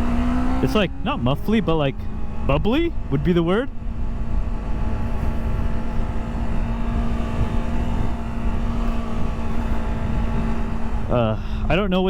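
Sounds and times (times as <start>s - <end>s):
low wind rumble on microphone: 0.0s - 12.0s
motorcycle engine running steadily: 0.0s - 12.0s.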